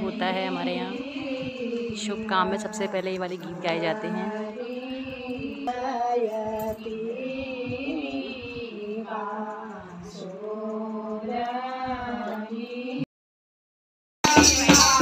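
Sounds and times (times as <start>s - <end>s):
women singing chant-like songs: 0.0s - 13.1s.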